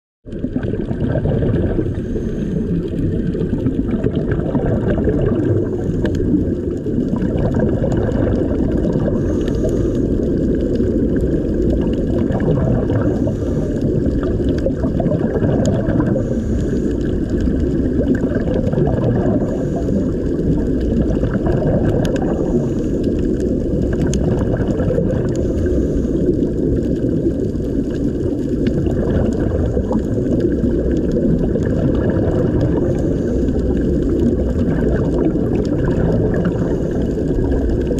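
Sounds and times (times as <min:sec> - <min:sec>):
muffled underwater water rush: 0:00.2 - 0:37.9
underwater bubbling: 0:00.2 - 0:37.9.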